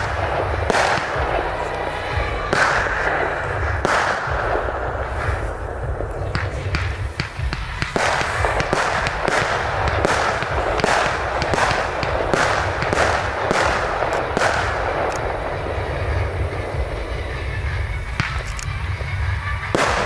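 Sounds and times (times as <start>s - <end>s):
fireworks bangs and crackling: 0.0s - 20.0s
steady low rumble: 0.0s - 20.0s.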